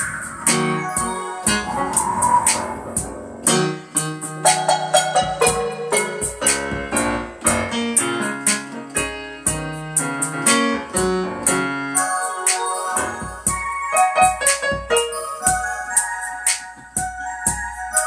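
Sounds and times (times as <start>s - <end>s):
instrumental gospel music: 0.0s - 18.0s
keyboard chords over steady beat: 0.0s - 18.0s.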